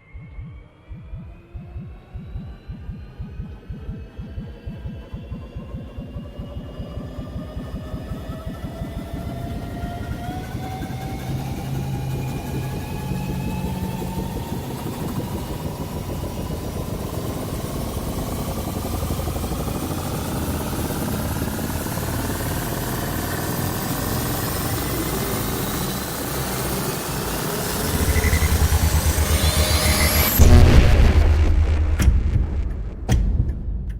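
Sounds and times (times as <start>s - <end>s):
low rapid throbbing: 0.0s - 33.9s
vehicle engine speeding up: 0.1s - 33.0s.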